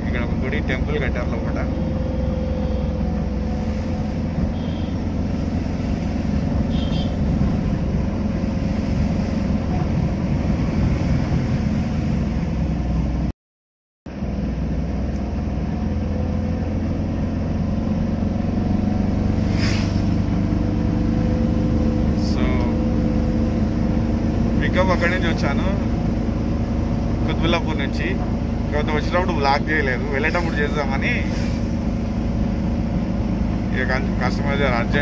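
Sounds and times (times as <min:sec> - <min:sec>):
engine drone and road noise: 0:00.0 - 0:13.3, 0:14.1 - 0:35.0.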